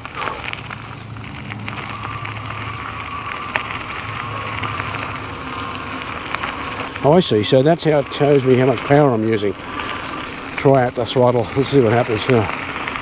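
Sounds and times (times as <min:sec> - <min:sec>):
bicycle tyres crunching on gravel: 0:00.0 - 0:13.0
faint steady whine: 0:00.0 - 0:13.0.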